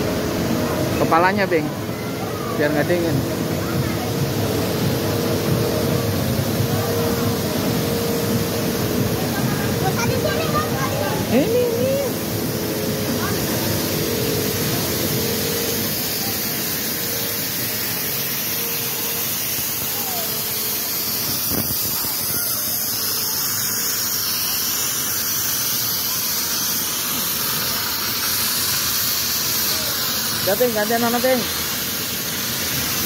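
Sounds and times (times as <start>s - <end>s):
snow machine hissing: 0.0s - 33.0s.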